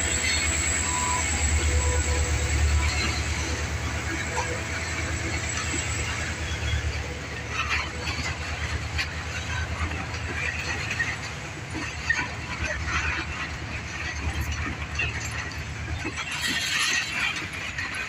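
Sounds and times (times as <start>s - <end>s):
train rumble: 0.0s - 18.0s
train squeaks and clicks: 0.0s - 18.0s.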